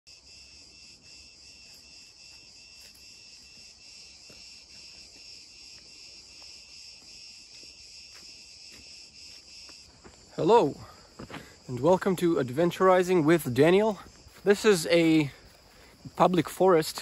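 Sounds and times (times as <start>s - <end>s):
cicadas buzzing: 0.1s - 17.0s.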